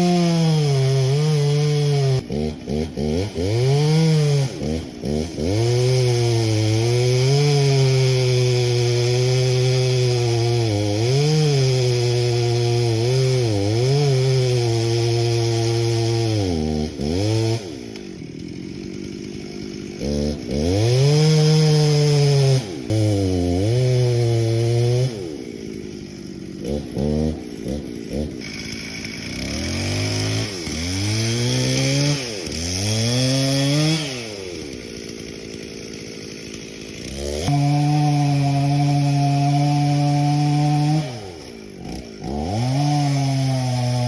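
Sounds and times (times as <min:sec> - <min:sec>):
chainsaw engine revving: 0:00.0 - 0:44.0.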